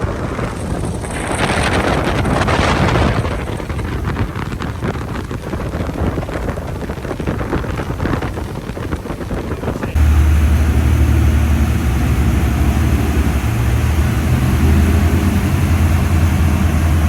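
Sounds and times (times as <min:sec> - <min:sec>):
boat engines running: 0:00.0 - 0:17.0
water rushing past hull: 0:00.0 - 0:17.0
wind buffeting microphone: 0:00.0 - 0:17.0.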